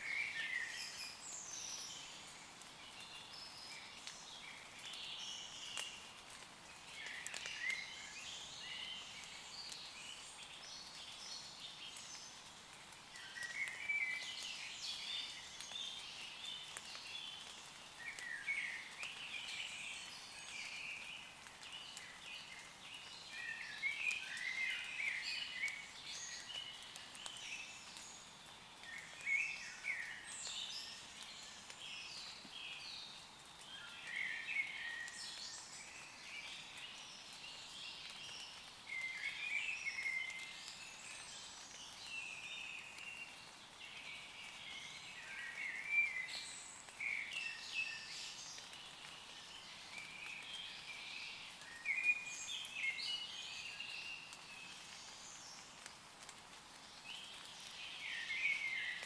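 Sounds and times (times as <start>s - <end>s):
birds singing: 0.0s - 6.1s, 13.1s - 55.9s, 56.8s - 59.0s
rain pattering on leaves: 0.0s - 59.0s.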